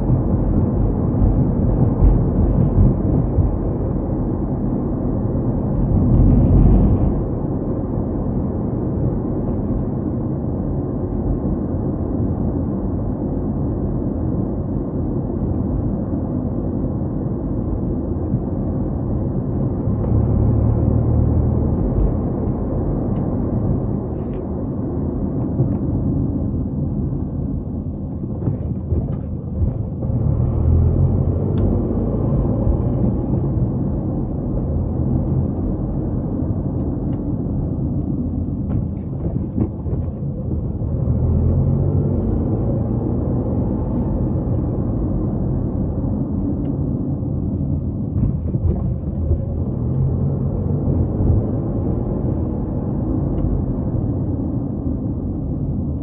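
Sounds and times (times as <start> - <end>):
tyre noise on road: 0.0 - 8.4, 19.0 - 56.0
car engine rumble: 0.0 - 56.0.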